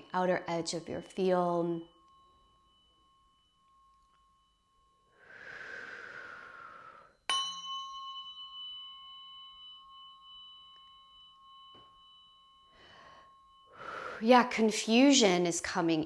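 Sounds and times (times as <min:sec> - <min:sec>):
tuning fork ringing: 0:00.0 - 0:16.0.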